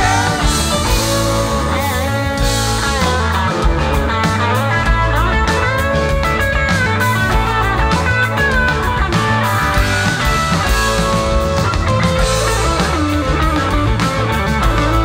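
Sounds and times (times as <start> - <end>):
bass guitar: 0.0 - 15.0
drums: 0.0 - 15.0
electric guitar lead: 0.0 - 15.0
keyboards: 0.0 - 15.0.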